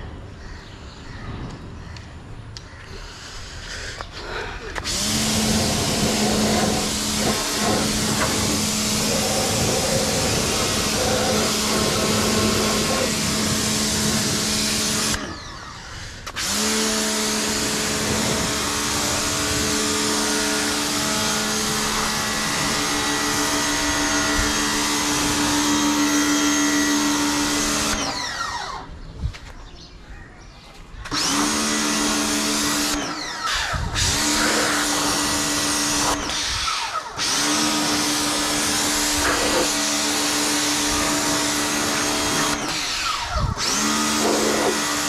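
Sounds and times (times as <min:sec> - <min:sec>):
pressure washer motor humming: 0:04.7 - 0:28.9, 0:31.1 - 0:45.0.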